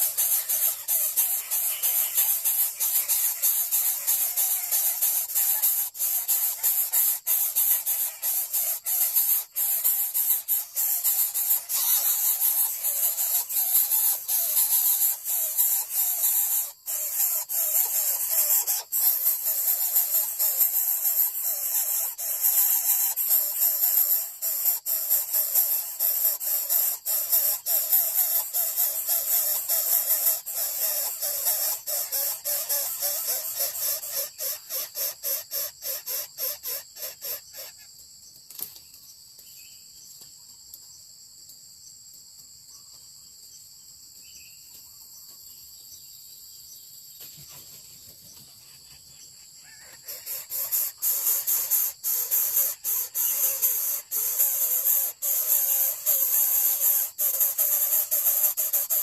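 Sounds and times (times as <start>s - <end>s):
bird chick hissing calls: 0.0s - 37.9s, 48.6s - 59.0s
high-pitched insect drone: 0.0s - 37.9s, 48.2s - 59.0s.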